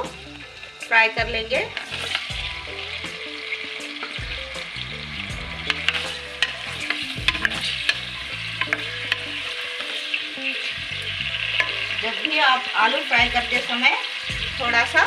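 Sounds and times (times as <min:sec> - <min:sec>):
potato slices sizzling in oil: 0:00.0 - 0:15.0.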